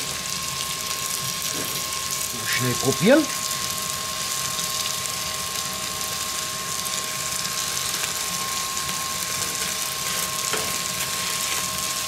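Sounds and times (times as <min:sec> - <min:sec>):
gas burner flame hissing: 0:00.0 - 0:12.0
sauce sizzling in a pan: 0:00.0 - 0:12.0.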